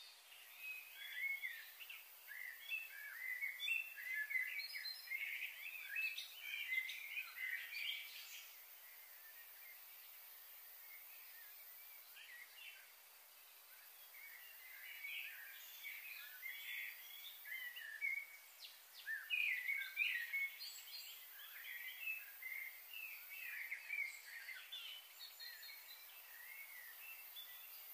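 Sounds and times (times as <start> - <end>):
faint steady hiss: 0.0 - 27.9
small birds chirping: 0.0 - 27.9.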